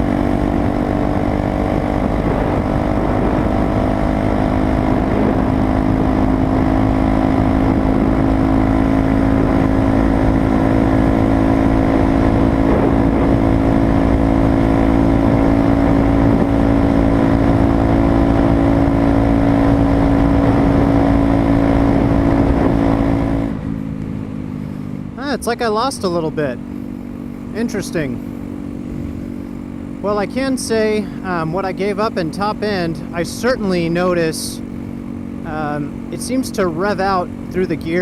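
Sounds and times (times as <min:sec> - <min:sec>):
motorcycle engine at high pitch: 0:00.0 - 0:38.0.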